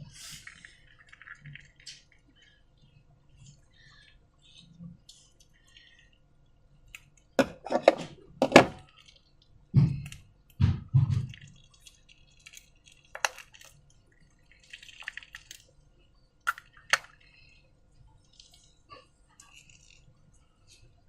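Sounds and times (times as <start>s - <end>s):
slime squishing: 0.0s - 21.0s
sticky clicks and crackling: 0.2s - 7.4s, 8.8s - 20.9s.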